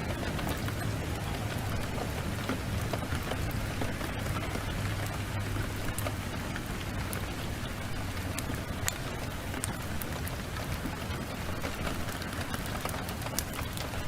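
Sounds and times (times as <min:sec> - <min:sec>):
heavy rain pouring: 0:00.0 - 0:14.0
wood fire crackling: 0:00.0 - 0:14.0.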